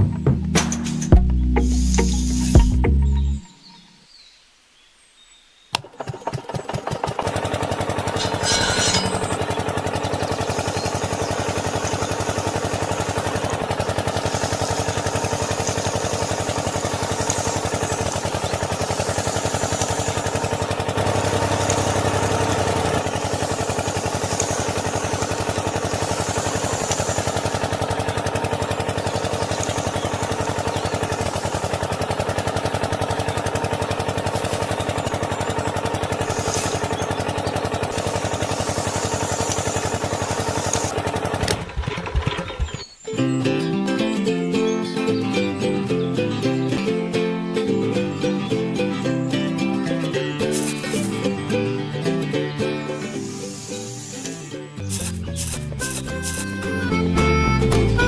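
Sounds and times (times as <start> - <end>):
small engine starting: 5.8 - 43.6, 44.6 - 58.0.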